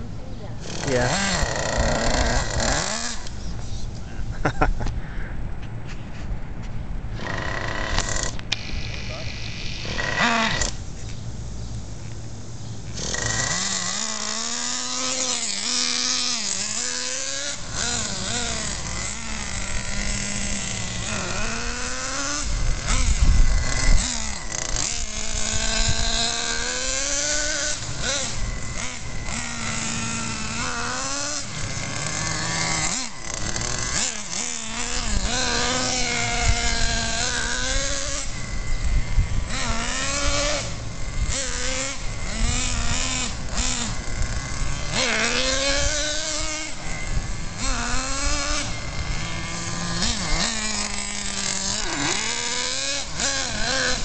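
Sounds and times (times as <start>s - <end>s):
small engine high-pitched whine: 0.0s - 54.0s.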